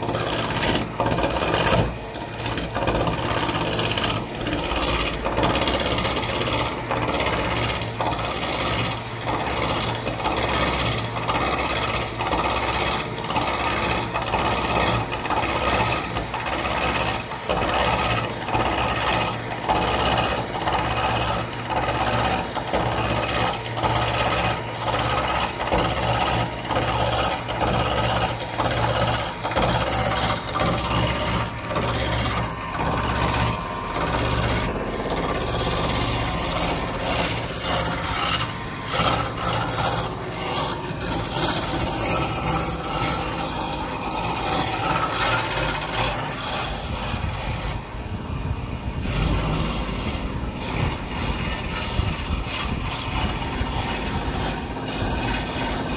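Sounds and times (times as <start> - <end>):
chisel scraping spinning wood: 0.0 - 55.9
lathe motor hum: 0.0 - 55.9.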